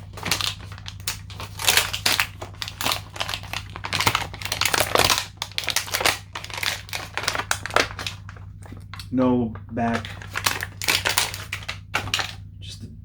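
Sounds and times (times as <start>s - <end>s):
plastic packaging crinkling: 0.0s - 12.4s
steady low hum: 0.0s - 13.0s.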